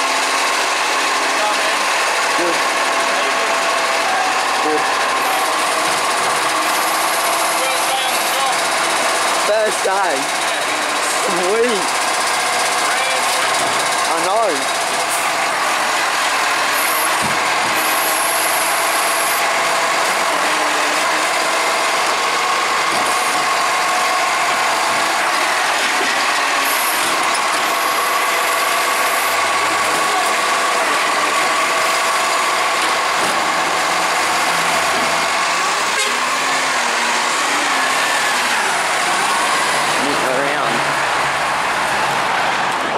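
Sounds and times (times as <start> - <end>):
garbage truck engine running: 0.0 - 42.9
hydraulic arm whine: 0.0 - 42.9.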